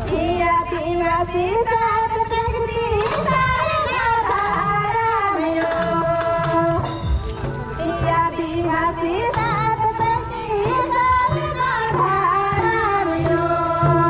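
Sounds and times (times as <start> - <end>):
regular percussion beat: 2.3 - 14.0.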